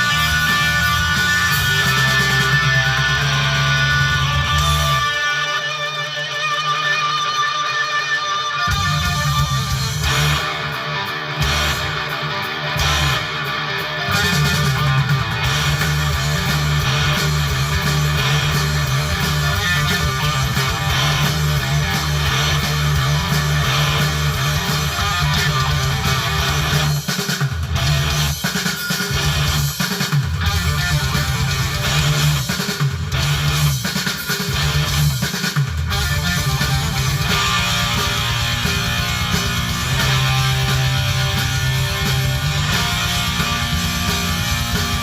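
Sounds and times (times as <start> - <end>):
electric guitar music with beat: 0.0 - 45.0.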